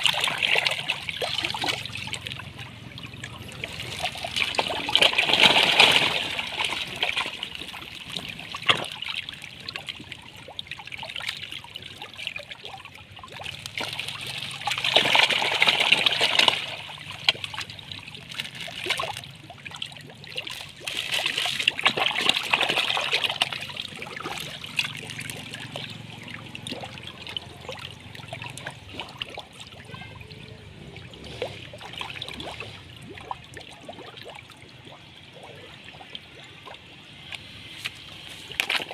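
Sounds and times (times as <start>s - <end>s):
fish thrashing and splashing in water: 0.0s - 38.9s.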